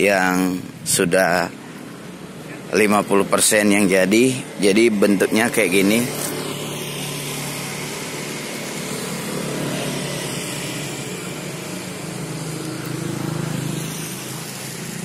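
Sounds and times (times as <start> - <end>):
road traffic engines humming: 0.0 - 15.0.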